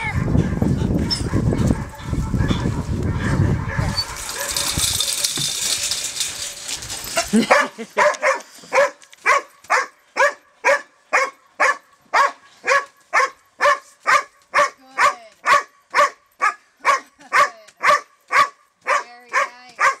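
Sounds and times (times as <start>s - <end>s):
dog barking: 0.0s - 4.7s, 7.5s - 20.0s.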